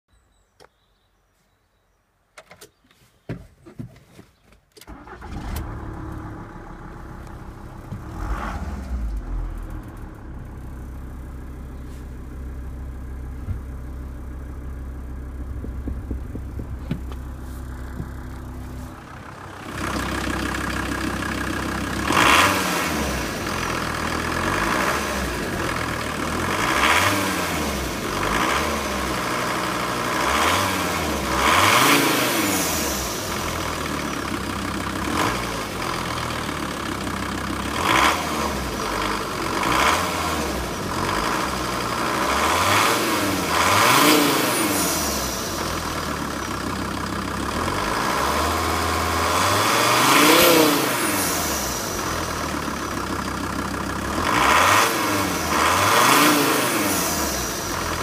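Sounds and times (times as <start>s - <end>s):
diesel engine starting and idling: 4.8s - 58.0s
diesel engine revving: 4.9s - 58.0s.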